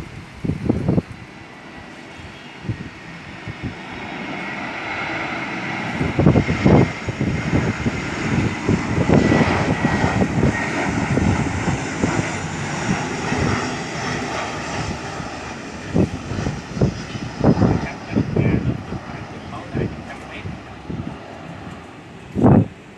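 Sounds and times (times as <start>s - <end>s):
airliner engines rushing: 0.0s - 22.9s
faint high engine whine: 0.0s - 22.9s.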